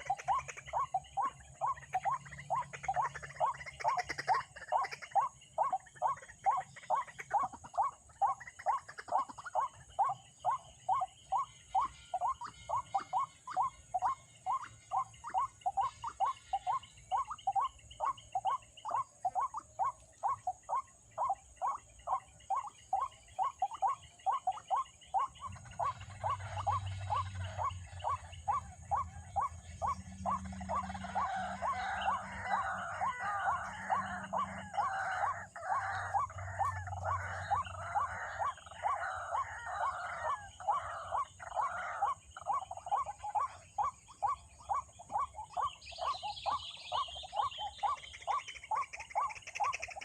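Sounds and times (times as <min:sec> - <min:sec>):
waterhen croaking calls: 0:00.0 - 0:50.0.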